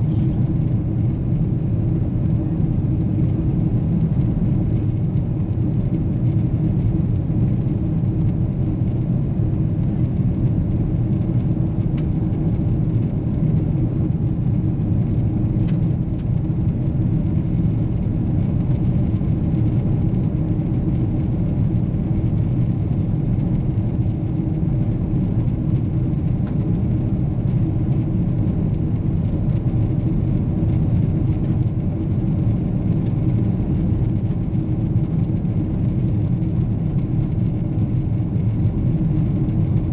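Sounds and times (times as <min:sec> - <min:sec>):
airplane engines droning in cabin: 0:00.0 - 0:39.9.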